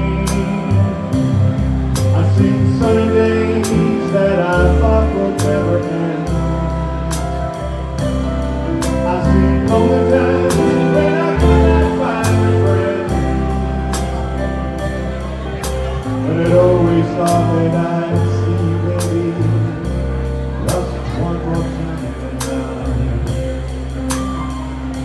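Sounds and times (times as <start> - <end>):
dance band playing a slow ballad: 0.0 - 25.0.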